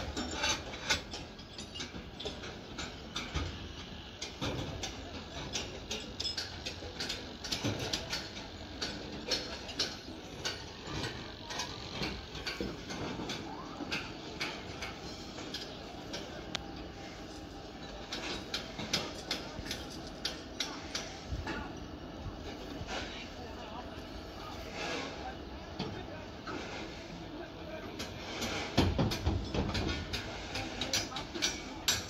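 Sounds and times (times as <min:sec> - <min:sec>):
construction clicks and knocks: 0:00.0 - 0:21.6, 0:27.8 - 0:32.0.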